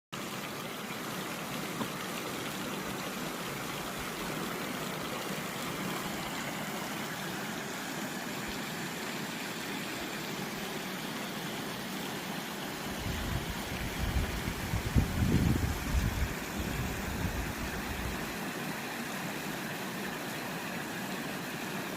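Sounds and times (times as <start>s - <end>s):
stream flowing: 0.2s - 21.9s.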